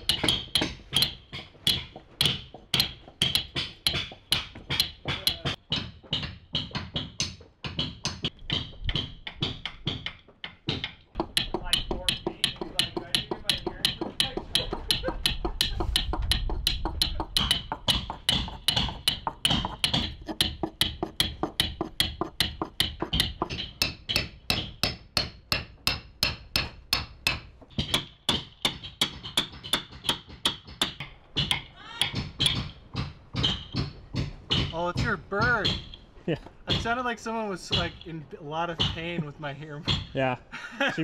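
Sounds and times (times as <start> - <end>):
mallets striking caulking irons: 0.0 - 40.3.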